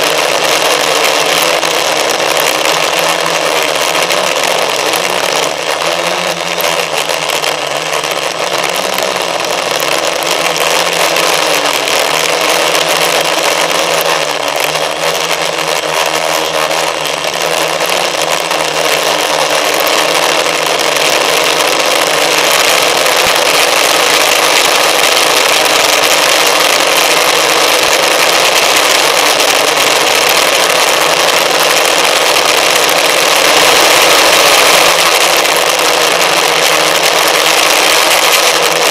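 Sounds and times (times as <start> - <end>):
model aircraft motor and propellers: 0.0 - 38.9.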